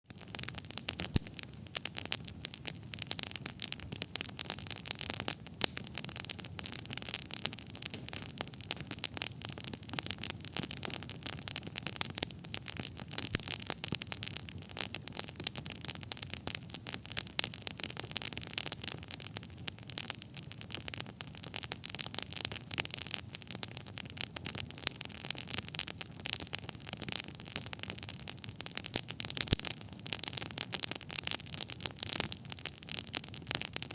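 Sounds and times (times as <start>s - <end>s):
campfire crackling: 0.1s - 33.9s.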